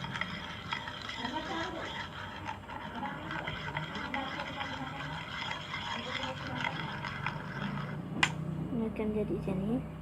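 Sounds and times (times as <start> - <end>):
pen stirring wet glue: 0.0 - 8.2.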